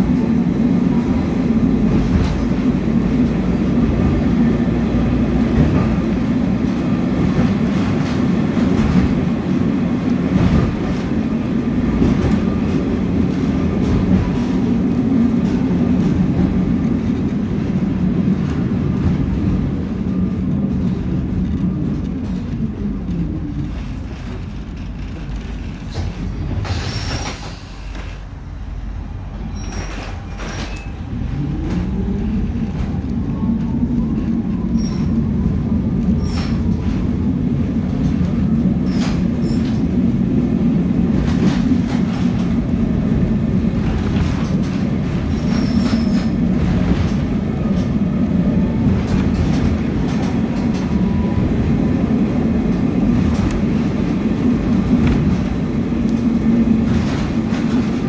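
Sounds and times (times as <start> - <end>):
tram motor hum: 0.0 - 58.0.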